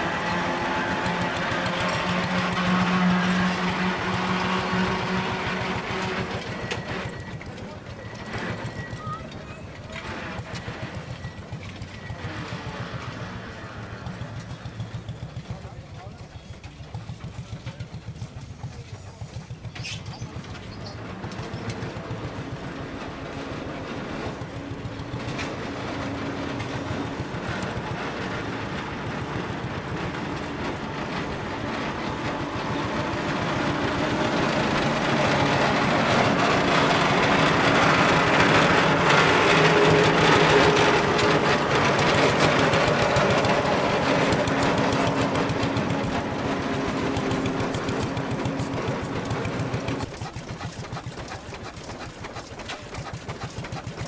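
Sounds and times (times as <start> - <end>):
stationary engine running: 0.0 - 54.0.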